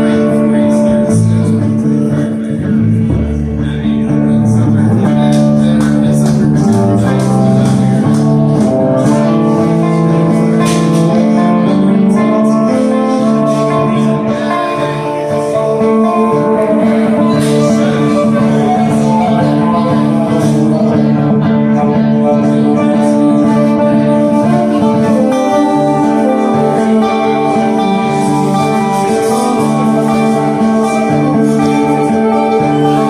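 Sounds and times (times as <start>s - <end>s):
acoustic guitars: 0.0s - 33.0s
upright bass: 0.0s - 33.0s.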